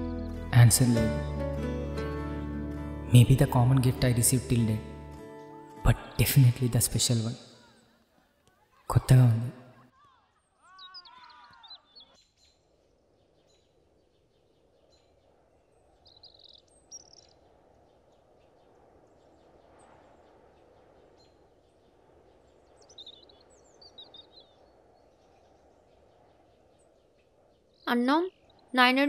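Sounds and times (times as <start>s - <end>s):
soft outdoor hiss: 0.0s - 29.0s.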